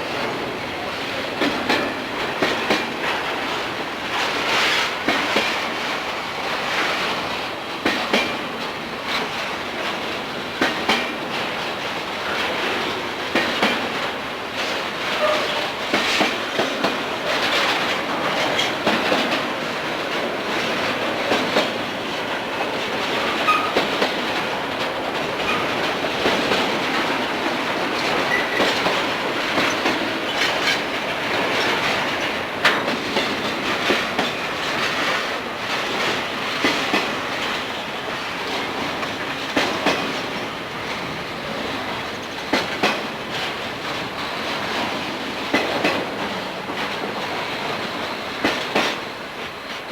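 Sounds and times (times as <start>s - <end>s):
train wheels clicking over rail joints: 0.1s - 49.9s.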